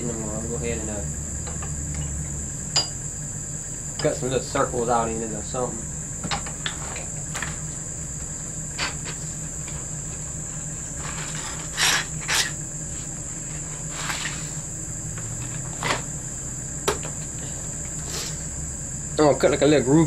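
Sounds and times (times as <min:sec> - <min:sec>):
crickets chirring: 0:00.0 - 0:20.0
low hum: 0:00.0 - 0:20.0.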